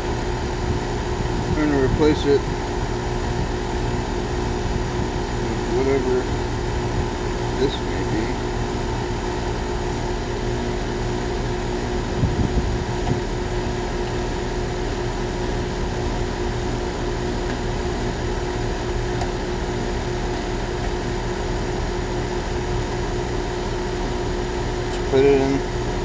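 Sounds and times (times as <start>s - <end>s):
heat pump unit humming: 0.0s - 26.0s.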